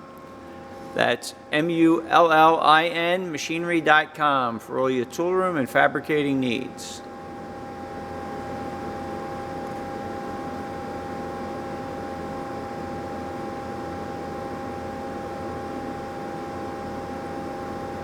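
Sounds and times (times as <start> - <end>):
machinery hum: 0.0 - 18.0.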